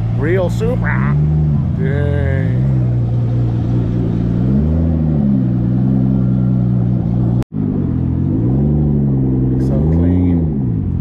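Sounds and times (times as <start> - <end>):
car engine at low speed: 0.0 - 11.0.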